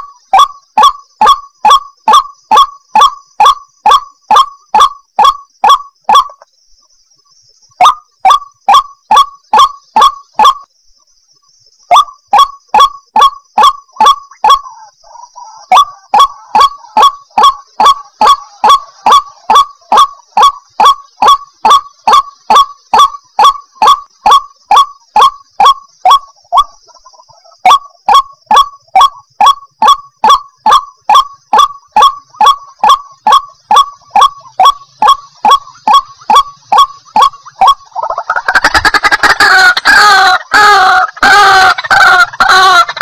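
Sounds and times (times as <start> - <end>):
waterhen calling: 0.0 - 6.5, 11.9 - 43.0.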